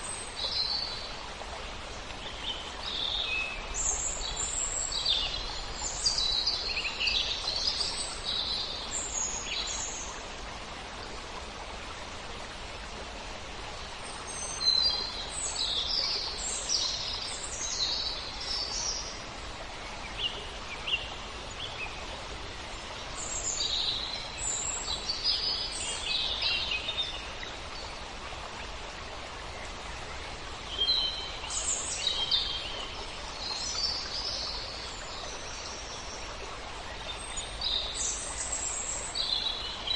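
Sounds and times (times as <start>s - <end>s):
wind through leaves: 0.0s - 39.9s.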